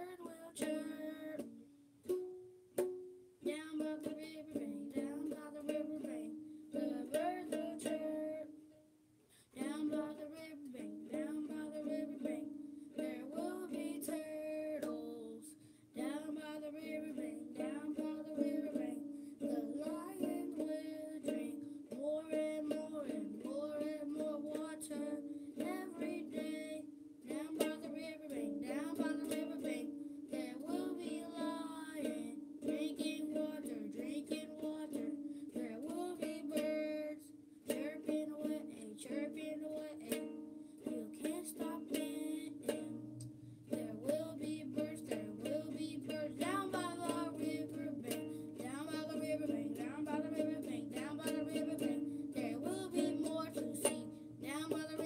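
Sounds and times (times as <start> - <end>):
child singing: 0.0 - 2.2, 3.4 - 8.7, 9.5 - 55.0
ukulele strumming: 0.0 - 8.8, 9.6 - 55.0.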